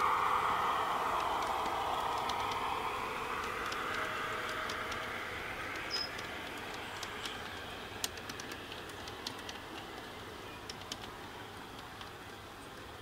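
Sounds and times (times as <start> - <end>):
model train wheels clicking on rails: 0.0 - 13.0.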